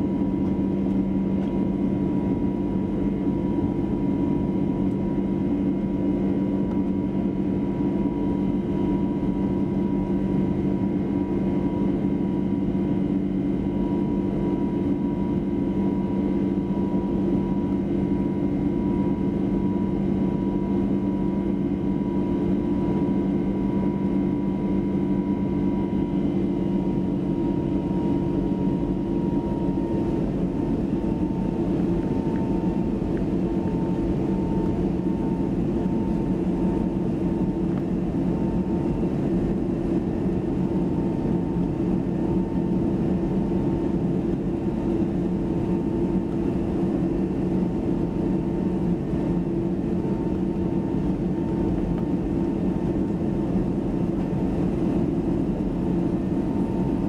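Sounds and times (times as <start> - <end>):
jet engines heard inside cabin: 0.0 - 57.0.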